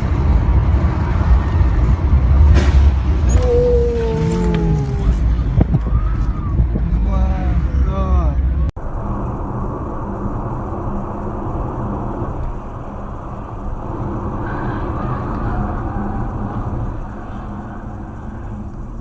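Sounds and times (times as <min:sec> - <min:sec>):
car engine and road noise: 0:00.0 - 0:19.0
constant low hum: 0:00.0 - 0:19.0.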